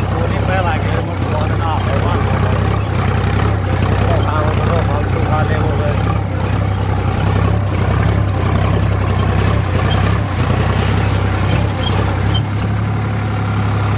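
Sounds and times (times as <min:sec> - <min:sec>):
tractor diesel engine droning: 0:00.0 - 0:13.9.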